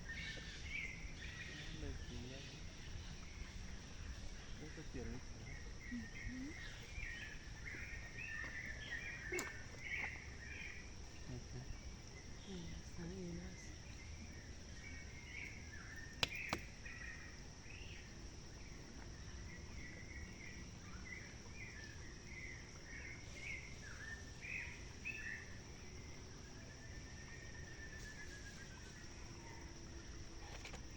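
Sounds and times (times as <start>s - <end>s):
birds chirping: 0.0s - 29.6s
high insect drone: 0.0s - 30.9s.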